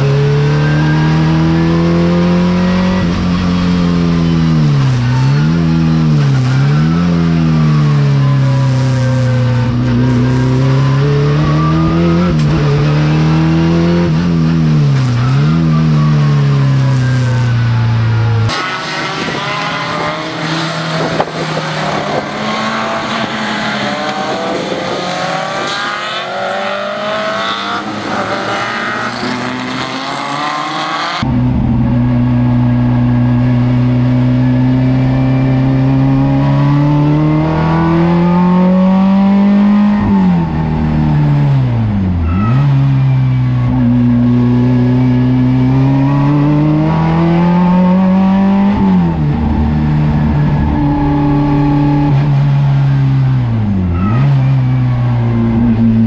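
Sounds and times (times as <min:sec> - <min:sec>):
race car engine accelerating: 0:00.0 - 0:56.0
race cars passing: 0:00.0 - 0:56.0.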